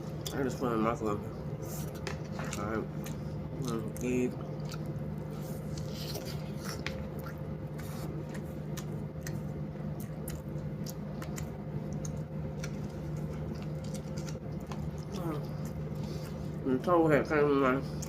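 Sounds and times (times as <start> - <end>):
low electrical hum: 0.0 - 18.0
person chewing food: 1.6 - 16.6.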